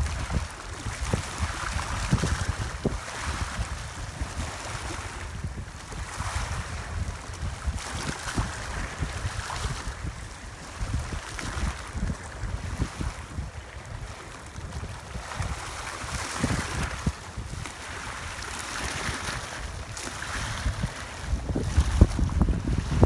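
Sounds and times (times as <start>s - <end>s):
waves lapping against shore: 0.0s - 23.0s
wind buffeting microphone: 0.0s - 23.0s.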